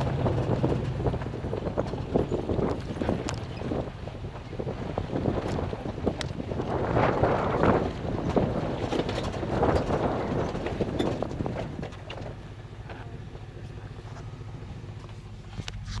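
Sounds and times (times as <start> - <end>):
pickup truck engine: 0.0 - 16.0
wind buffeting microphone: 0.0 - 16.0.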